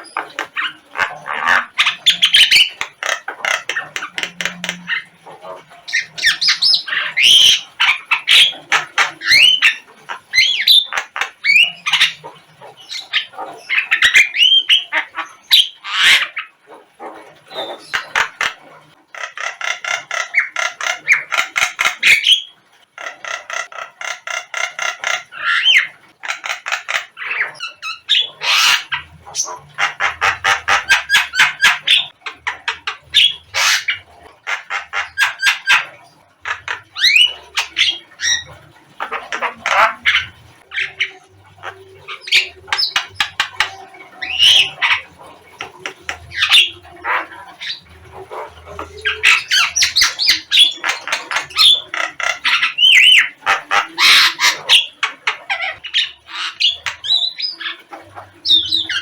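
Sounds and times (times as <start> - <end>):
myna bird calling and singing: 0.0 - 16.5, 19.3 - 59.0.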